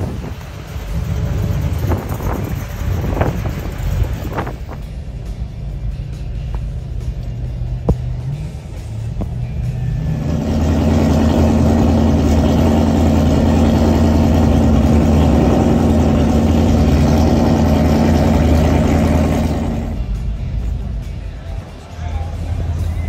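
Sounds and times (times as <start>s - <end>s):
car engine rumbling at low revs: 0.0s - 23.0s.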